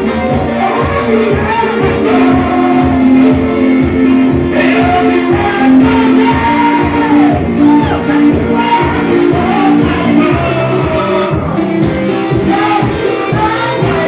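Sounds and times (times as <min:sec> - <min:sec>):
band playing: 0:00.0 - 0:14.0
steady drum beat: 0:00.0 - 0:14.0
voices singing: 0:00.0 - 0:14.0.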